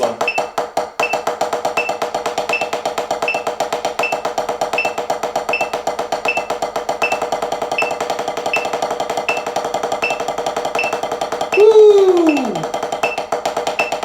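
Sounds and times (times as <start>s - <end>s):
drumsticks on practice pad: 0.0s - 14.0s
metronome clicking: 0.0s - 14.0s.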